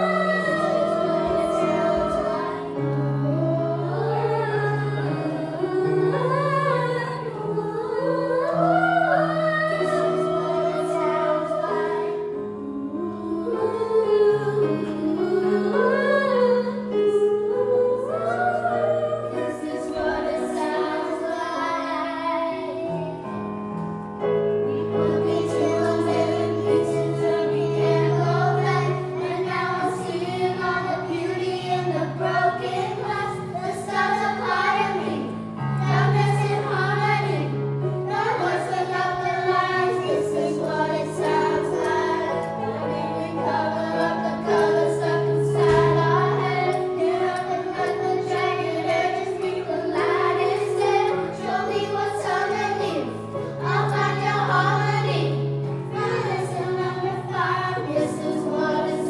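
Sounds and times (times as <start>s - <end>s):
choir singing pop song: 0.0s - 23.4s, 24.6s - 59.0s
low held accompaniment notes: 0.0s - 59.0s.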